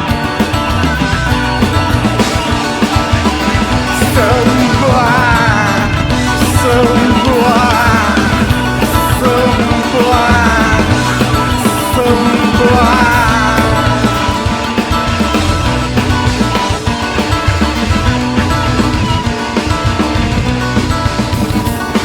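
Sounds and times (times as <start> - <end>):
loud rock music: 0.0 - 22.0.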